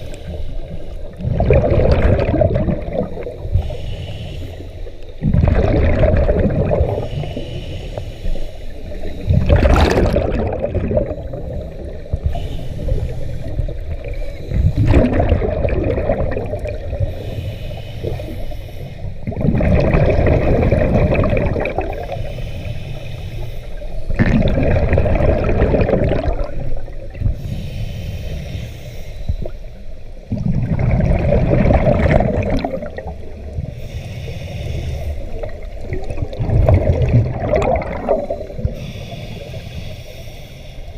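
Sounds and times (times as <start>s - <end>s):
diver inhaling through regulator: 0.0s - 30.1s, 31.7s - 40.9s
scuba regulator bubbles: 0.0s - 40.7s.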